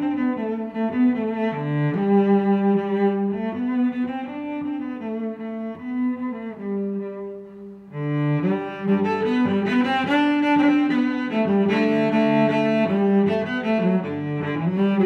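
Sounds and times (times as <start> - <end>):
bowed string instrumental music: 0.0 - 15.0.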